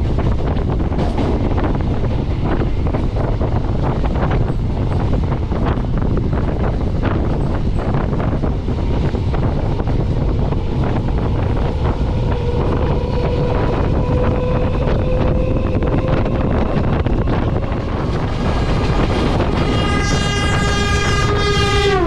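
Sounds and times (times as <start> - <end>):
train rushing past: 0.0 - 22.0
train wheel clatter: 0.0 - 22.0
wind buffeting microphone: 0.0 - 22.0.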